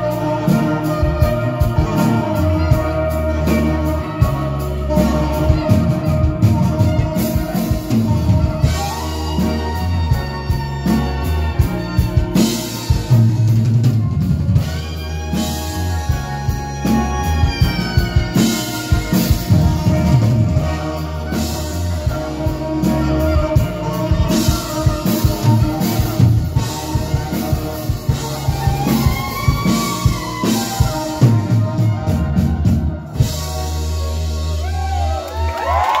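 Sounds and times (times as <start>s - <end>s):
live rock band playing: 0.0s - 36.0s
saxophone: 0.0s - 36.0s.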